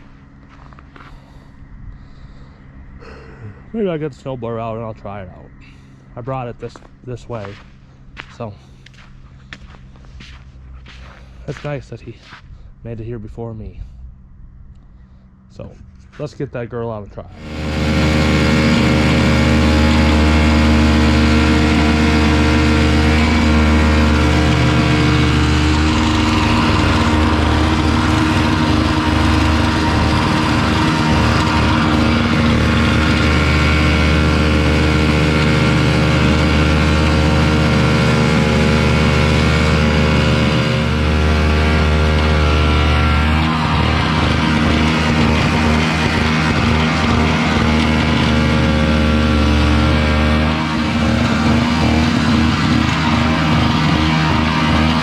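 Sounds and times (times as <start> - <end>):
snowblower engine running: 0.0 - 12.4, 17.3 - 55.0.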